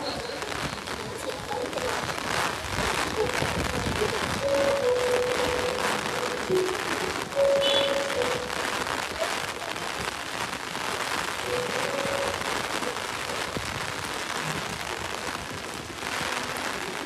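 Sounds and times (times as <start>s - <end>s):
heavy rain on stone paving: 0.0s - 17.0s.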